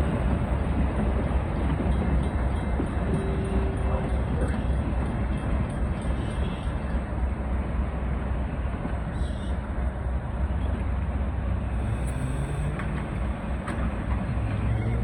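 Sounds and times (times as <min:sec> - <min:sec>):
locomotive engine humming: 0:00.0 - 0:15.0.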